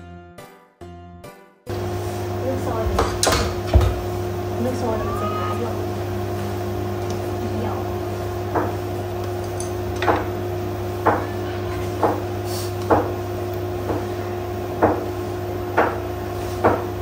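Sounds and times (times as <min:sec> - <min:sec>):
steady low hum: 0:01.7 - 0:17.0.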